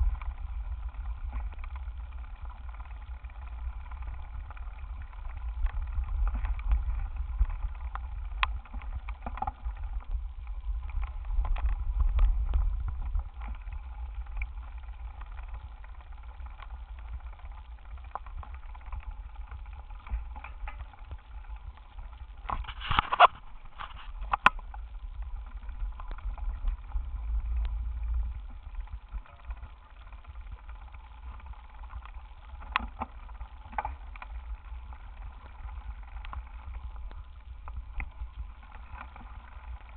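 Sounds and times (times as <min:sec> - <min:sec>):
wind rumble: 0:00.0 - 0:39.9.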